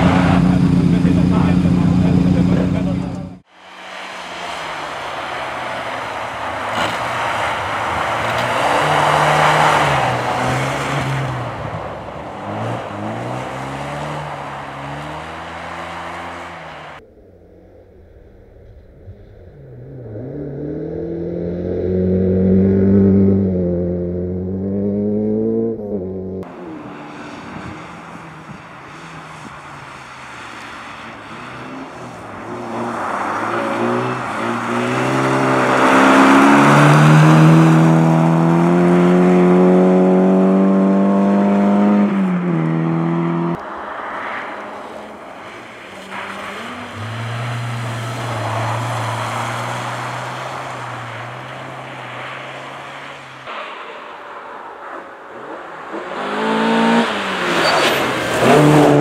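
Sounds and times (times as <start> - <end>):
rally car engines revving: 0.0 - 17.0, 19.5 - 59.0.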